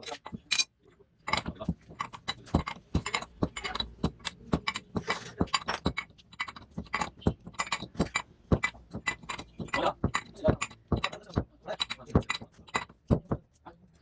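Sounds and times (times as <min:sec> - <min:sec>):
metal parts clinking: 0:00.0 - 0:00.7, 0:01.3 - 0:12.9.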